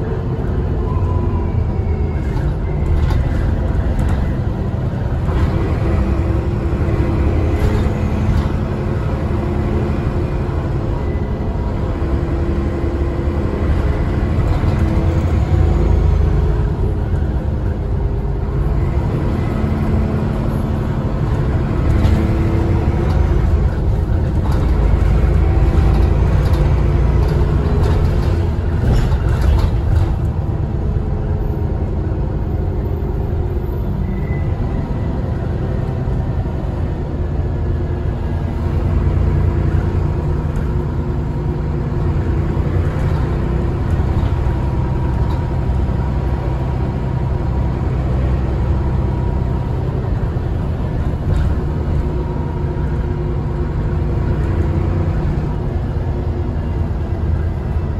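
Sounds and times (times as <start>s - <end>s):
bus diesel engine rumbling: 0.0s - 57.9s.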